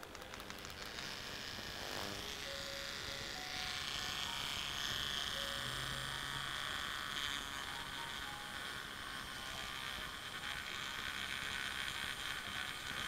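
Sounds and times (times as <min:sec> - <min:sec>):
rotary tool grinding plastic: 0:00.0 - 0:13.0.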